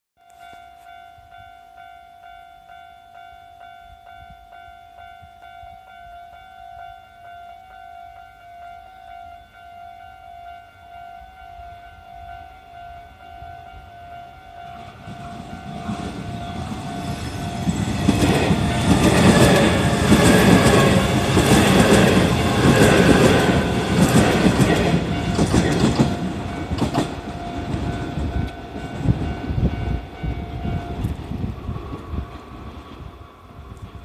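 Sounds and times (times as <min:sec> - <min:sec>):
level-crossing warning bell: 0:00.2 - 0:31.5
electric train passing: 0:00.8 - 0:34.0.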